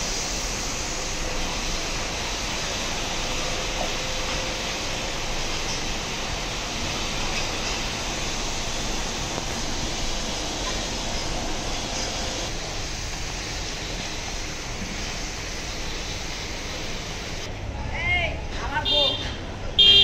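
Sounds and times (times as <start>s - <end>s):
steady rushing noise: 0.0s - 18.8s.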